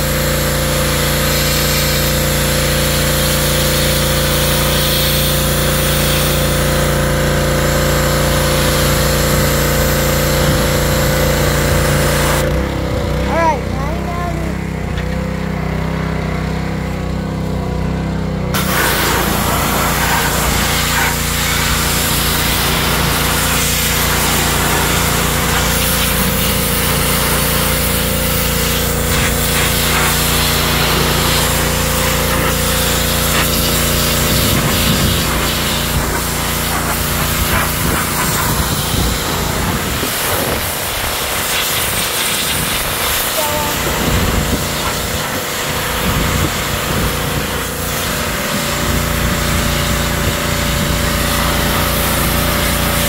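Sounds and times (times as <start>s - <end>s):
water jet spraying on metal: 0.0s - 12.4s, 18.6s - 53.0s
pressure washer running: 0.0s - 53.0s.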